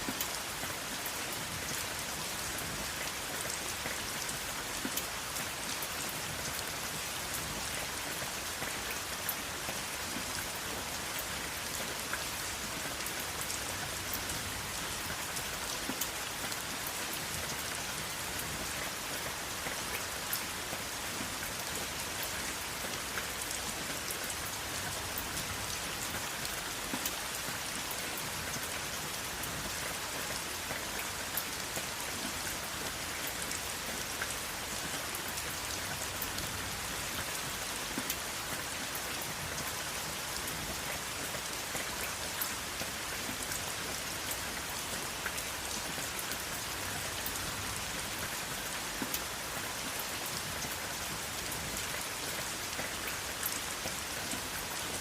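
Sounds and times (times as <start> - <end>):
raindrops ticking on a surface: 0.0 - 55.0
steady rain falling: 0.0 - 55.0.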